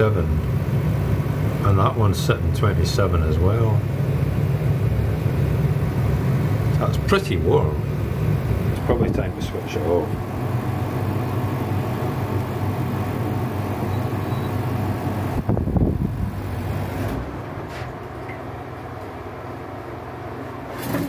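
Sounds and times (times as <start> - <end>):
air conditioner hum and fan hiss: 0.0 - 21.0.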